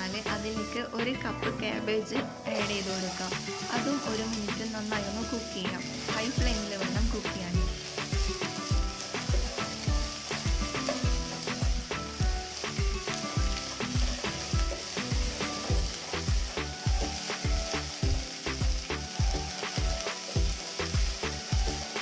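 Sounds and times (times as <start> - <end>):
background music with beat: 0.0 - 22.0
vegetables sizzling in oil: 0.0 - 22.0.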